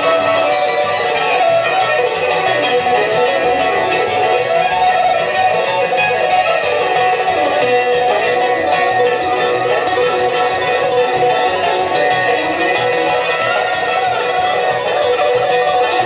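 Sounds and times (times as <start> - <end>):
bluegrass band playing: 0.0 - 16.0
fiddle: 0.0 - 16.0
plucked guitar and banjo: 0.0 - 16.0.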